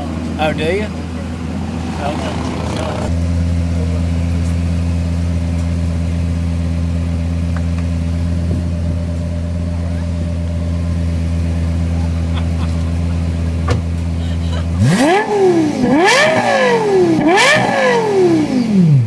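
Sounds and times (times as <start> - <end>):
car engine idling: 0.0 - 18.1.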